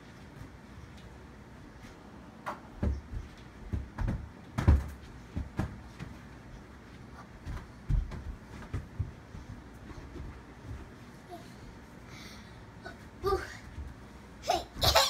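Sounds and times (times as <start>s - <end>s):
small footsteps on carpet: 0.0s - 12.0s, 13.1s - 14.4s.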